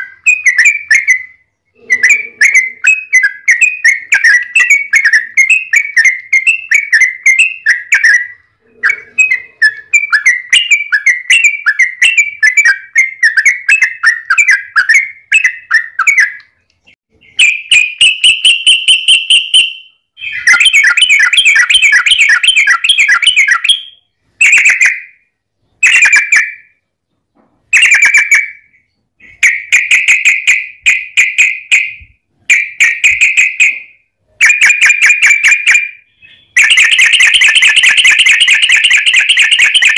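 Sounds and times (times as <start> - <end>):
bird singing rapid chattering: 0.0 - 26.6, 27.7 - 39.9.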